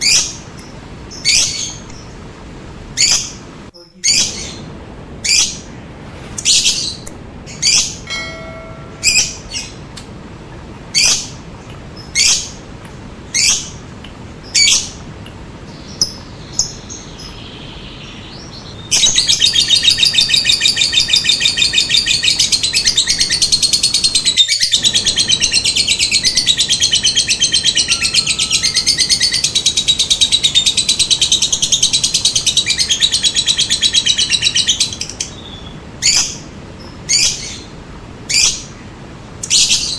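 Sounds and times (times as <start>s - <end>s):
lovebird chirping and trilling: 0.0s - 2.2s, 3.0s - 5.7s, 6.4s - 9.9s, 10.9s - 11.4s, 12.0s - 12.6s, 13.3s - 15.0s, 15.7s - 37.7s.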